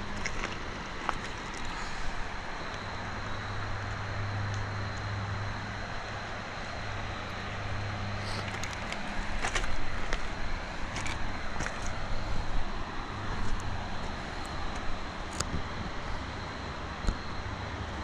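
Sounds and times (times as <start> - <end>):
constant rushing noise: 0.0 - 18.0
low engine hum: 0.0 - 18.0.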